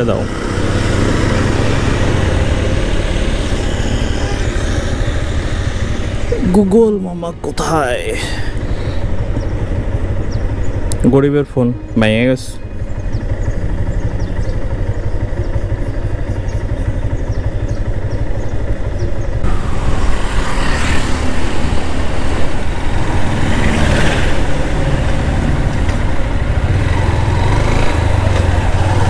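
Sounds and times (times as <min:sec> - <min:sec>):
motorcycle engine running: 0:00.0 - 0:29.0
road and wind noise: 0:00.0 - 0:29.0
vehicles passing: 0:00.0 - 0:29.0.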